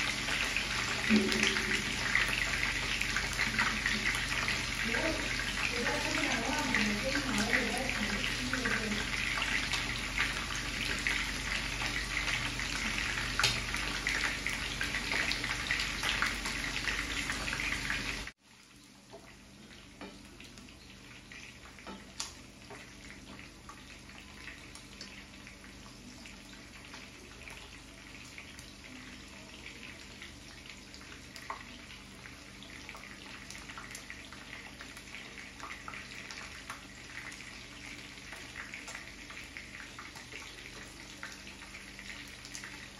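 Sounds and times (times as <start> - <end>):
food sizzling in oil: 0.0 - 42.9.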